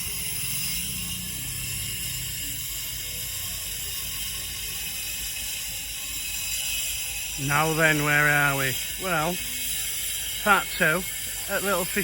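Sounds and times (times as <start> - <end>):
angle grinder running: 0.0 - 12.0.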